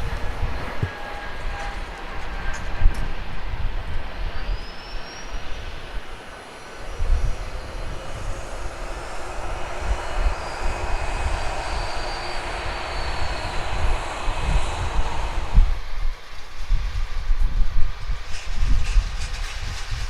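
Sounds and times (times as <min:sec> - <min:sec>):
engine whine: 0:00.0 - 0:17.6
jet engines rushing: 0:00.0 - 0:18.7
low rumble: 0:01.6 - 0:17.7.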